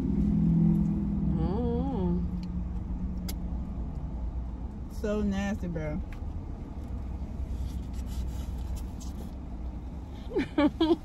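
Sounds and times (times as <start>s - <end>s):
car engine hum inside cabin: 0.0s - 11.0s.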